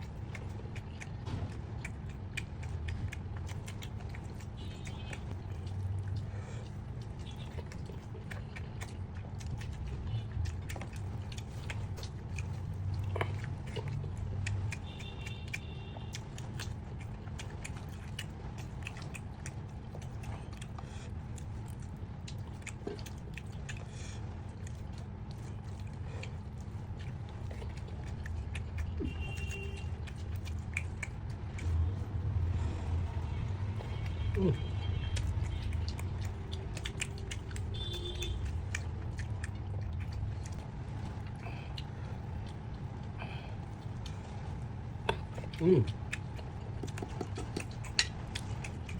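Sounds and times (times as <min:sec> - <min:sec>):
chewing and biting: 0:00.0 - 0:48.9
wet mouth clicks and smacks: 0:00.0 - 0:48.9.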